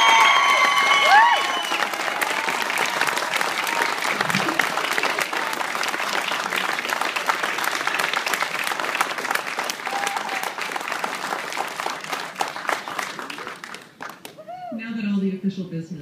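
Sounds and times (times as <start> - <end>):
audience applause: 0.0 - 14.6.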